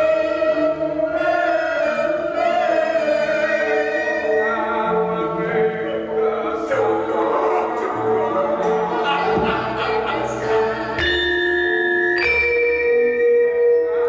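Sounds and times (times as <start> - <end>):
voices singing held notes: 0.0 - 12.3.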